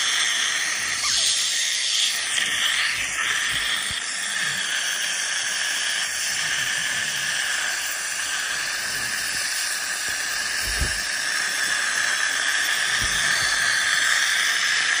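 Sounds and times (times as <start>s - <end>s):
dental scaler water spray hiss: 0.0s - 15.0s.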